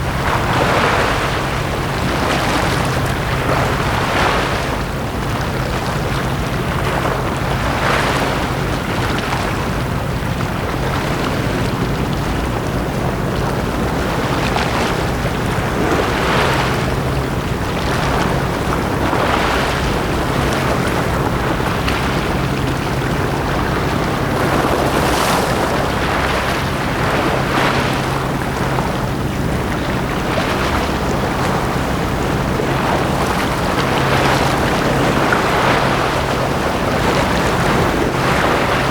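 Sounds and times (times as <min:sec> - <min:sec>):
small waves washing onto shore: 0:00.0 - 0:38.9
steady low hum: 0:00.0 - 0:38.9.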